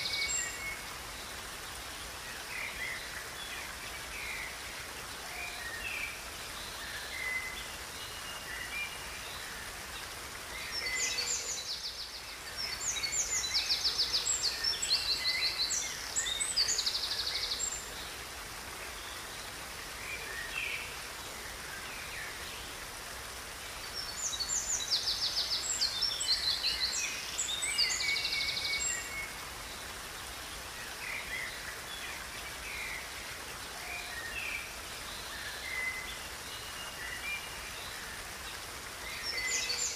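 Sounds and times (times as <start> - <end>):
birds singing: 0.0 - 22.8, 23.6 - 39.9
river rushing: 0.0 - 39.9.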